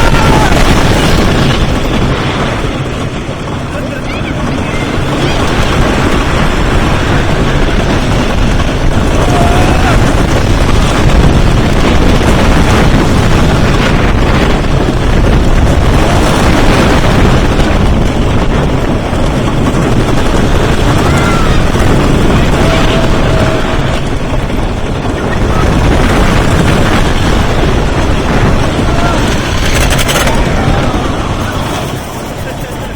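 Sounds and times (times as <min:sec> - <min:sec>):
roller coaster train rattling: 0:00.0 - 0:32.9
wind buffeting microphone: 0:00.0 - 0:32.9.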